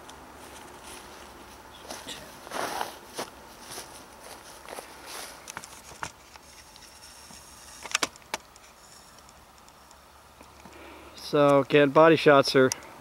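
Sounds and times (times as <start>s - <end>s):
faint clicks and rustles: 0.0s - 10.8s.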